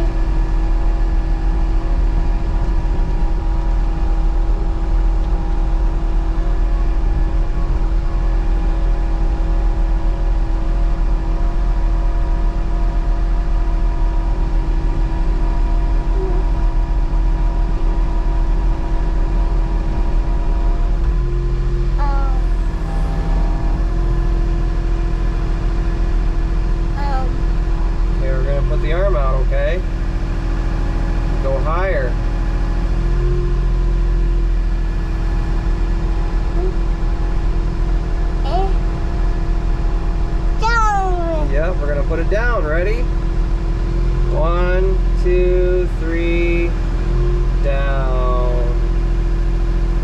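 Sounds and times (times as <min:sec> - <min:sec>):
excavator diesel engine rumbling: 0:00.0 - 0:31.4, 0:32.2 - 0:44.4.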